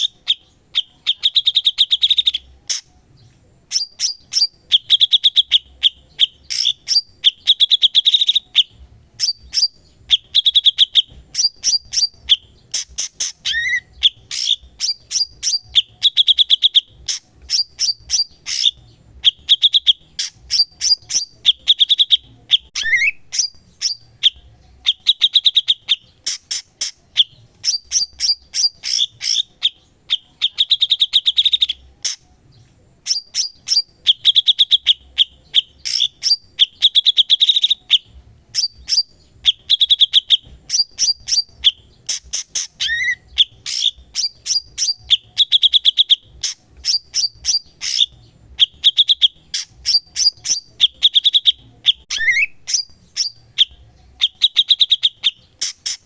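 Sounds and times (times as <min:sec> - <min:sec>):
bird singing rapid chips and trills: 0:00.0 - 0:56.0.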